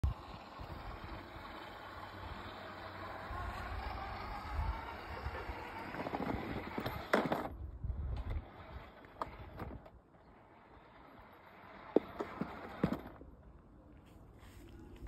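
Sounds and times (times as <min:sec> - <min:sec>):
robot lawn mower running: 0:00.0 - 0:13.4.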